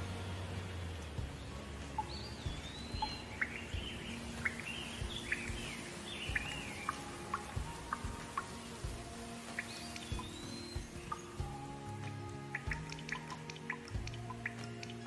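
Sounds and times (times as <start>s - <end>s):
birdsong whistles and chirps: 1.2s - 15.0s.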